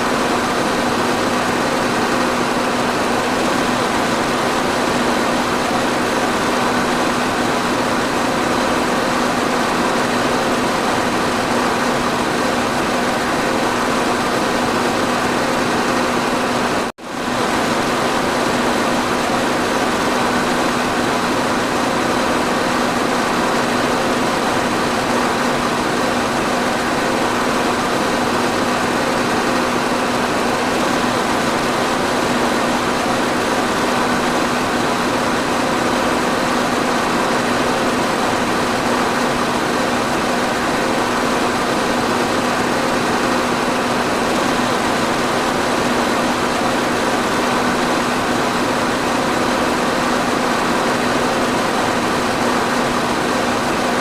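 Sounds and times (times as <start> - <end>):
electric fan running: 0.0 - 54.0.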